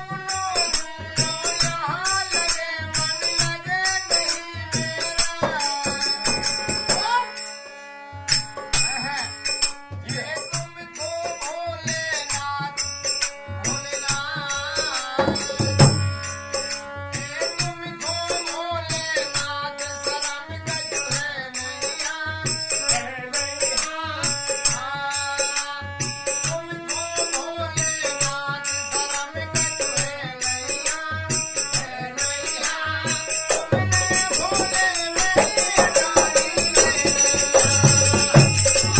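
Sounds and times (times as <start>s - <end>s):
fast percussion beat: 0.0s - 7.3s, 8.3s - 38.9s.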